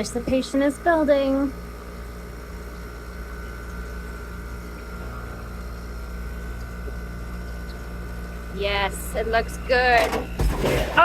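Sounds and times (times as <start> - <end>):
ice machine humming: 0.0 - 11.0.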